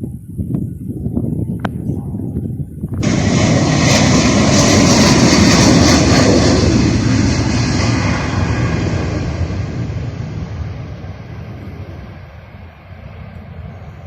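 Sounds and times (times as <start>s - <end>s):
jet airliner engines: 0.4s - 14.0s.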